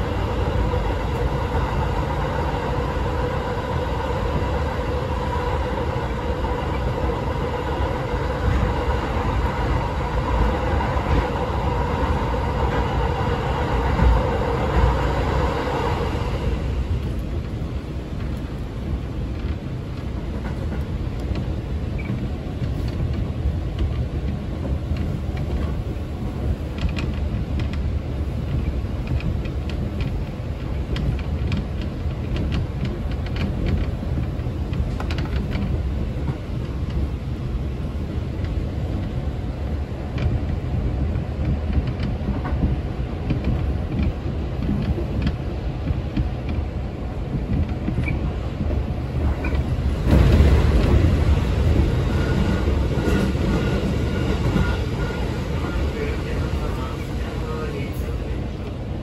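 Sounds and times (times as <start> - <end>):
train rumbling on rails: 0.0 - 59.0
train whine: 0.0 - 59.0.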